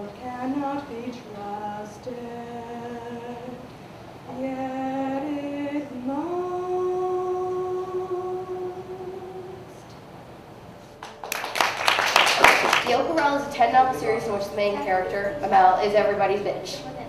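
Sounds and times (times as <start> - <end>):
woman singing unaccompanied: 0.0 - 10.1, 12.8 - 17.0.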